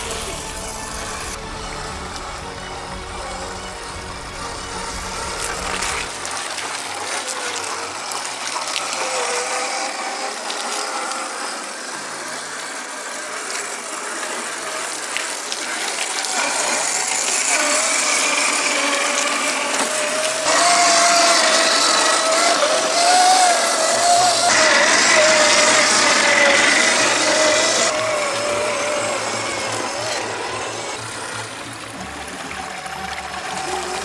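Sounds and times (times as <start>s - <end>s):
electric motor and gears whining: 0.0s - 34.0s.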